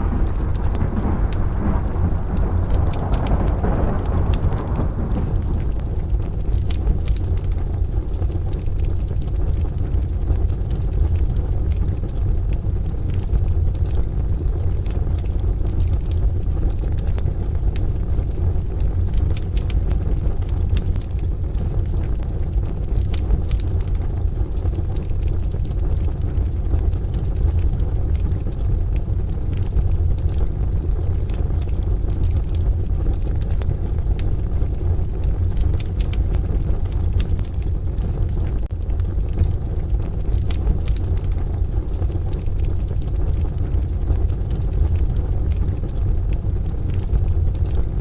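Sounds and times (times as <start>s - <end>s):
rain hiss: 0.0s - 48.0s
thunder rumble: 0.0s - 48.0s
wood fire crackling and popping: 0.0s - 48.0s.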